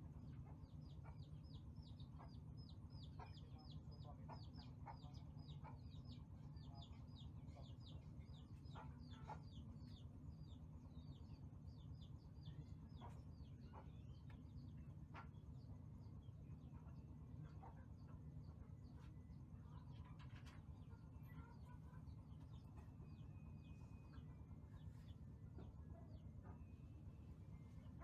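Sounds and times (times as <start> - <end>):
steady low hum: 0.0 - 28.0
faint rapid bird chirping: 0.1 - 28.0.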